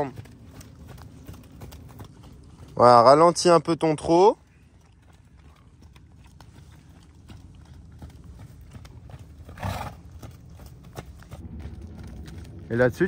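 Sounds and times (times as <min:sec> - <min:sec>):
horse hooves trotting: 0:00.0 - 0:13.0.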